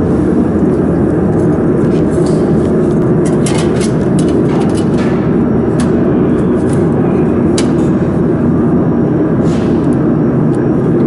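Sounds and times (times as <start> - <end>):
loud machinery noise: 0.0 - 11.0.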